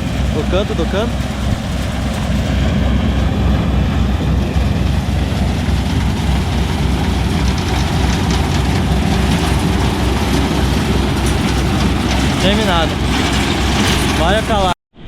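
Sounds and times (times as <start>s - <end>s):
combine harvester engine hum: 0.0s - 14.8s
machinery noise: 0.0s - 14.8s.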